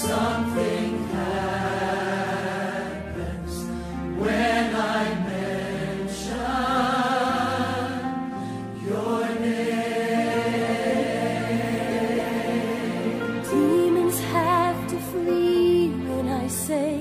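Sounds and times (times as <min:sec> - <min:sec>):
choir singing held notes: 0:00.0 - 0:15.0
musical accompaniment: 0:00.0 - 0:17.0.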